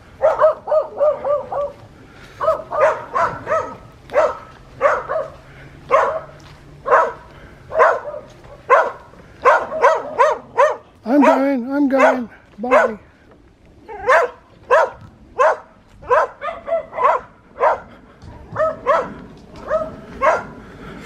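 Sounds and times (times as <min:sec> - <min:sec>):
dog barking: 0:00.2 - 0:01.8, 0:02.4 - 0:13.0, 0:13.9 - 0:17.9, 0:18.5 - 0:20.6.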